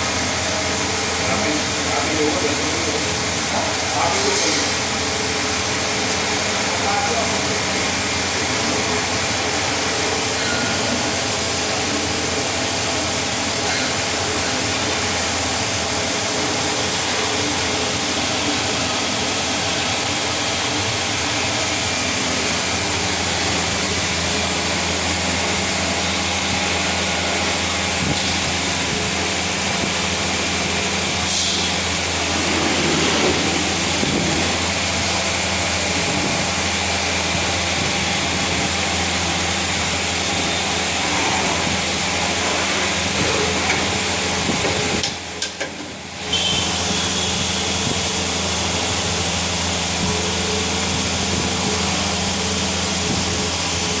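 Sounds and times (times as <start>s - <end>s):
machining machine hum and hiss: 0.0s - 54.0s.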